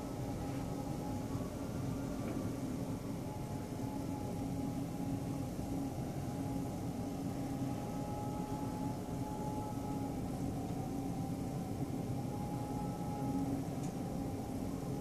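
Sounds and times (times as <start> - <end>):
faint steady tones: 0.0 - 15.0
mechanical hum: 0.0 - 15.0.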